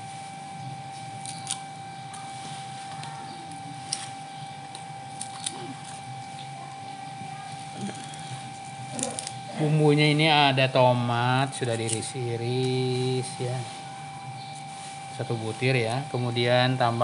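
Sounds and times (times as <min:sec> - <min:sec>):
steady hum: 0:00.0 - 0:17.0
thin constant whine: 0:00.0 - 0:17.0.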